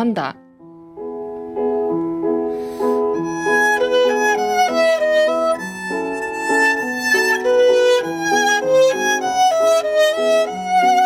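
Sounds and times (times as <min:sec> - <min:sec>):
violin melody: 0:01.2 - 0:11.0.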